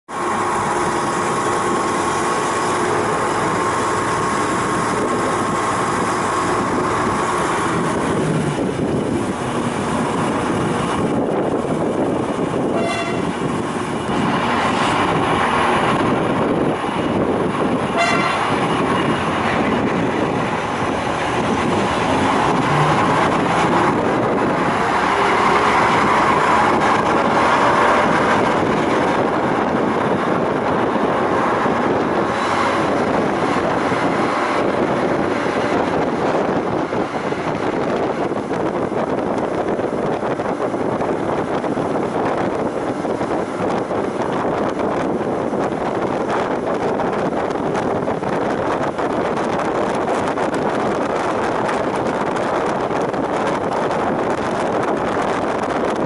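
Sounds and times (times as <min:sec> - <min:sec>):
railcar engine and rail noise: 0:00.0 - 0:56.0.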